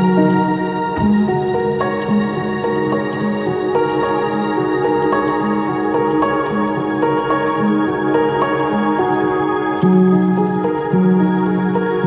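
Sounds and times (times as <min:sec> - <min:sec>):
calm new-age instrumental music: 0:00.0 - 0:12.0.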